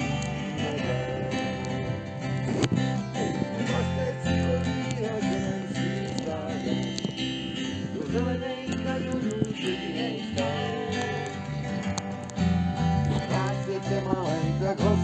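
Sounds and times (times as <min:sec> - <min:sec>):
people singing along: 0:00.0 - 0:12.2, 0:13.0 - 0:15.0
acoustic guitar strumming: 0:00.0 - 0:15.0
mandolin playing: 0:00.0 - 0:15.0.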